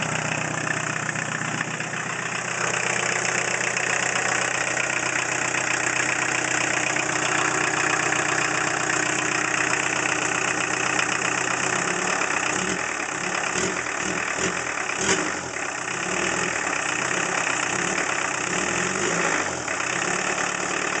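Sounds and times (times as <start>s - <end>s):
loud unmuffled diesel engine: 0.0s - 21.0s.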